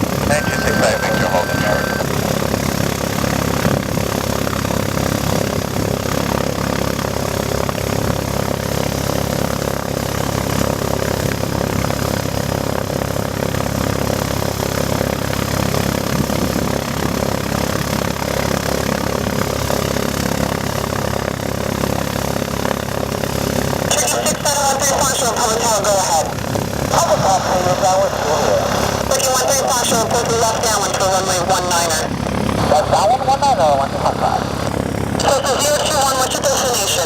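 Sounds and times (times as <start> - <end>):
airplane engine and propeller: 0.0 - 37.0.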